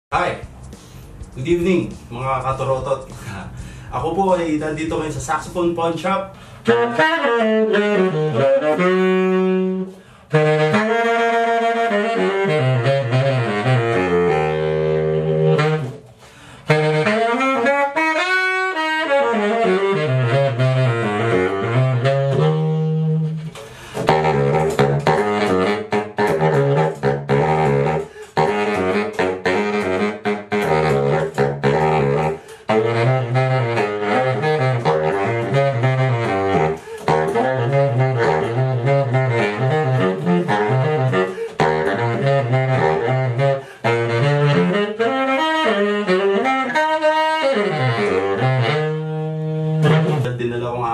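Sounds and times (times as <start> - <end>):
baritone saxophone jazz solo: 0.3 - 50.8.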